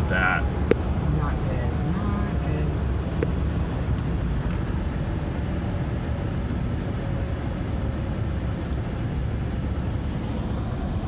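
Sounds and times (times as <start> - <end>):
car rumble on highway: 0.0 - 11.0.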